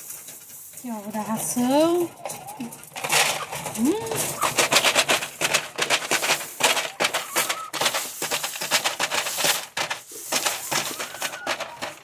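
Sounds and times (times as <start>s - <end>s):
feed pellets rattling: 0.0s - 12.0s
plastic bag crinkling: 0.0s - 12.0s.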